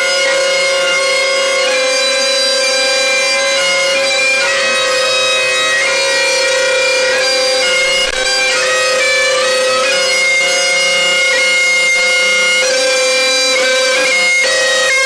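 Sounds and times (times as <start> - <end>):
bagpipes playing: 0.0 - 15.0.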